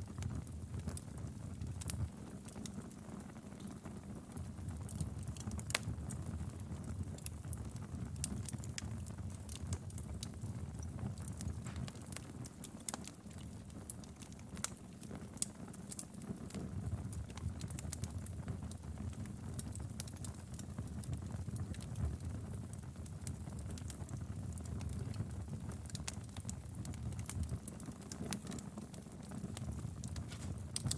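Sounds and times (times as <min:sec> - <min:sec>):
low rumble of flames: 0:00.0 - 0:30.9
wood fire popping and snapping: 0:00.0 - 0:30.9.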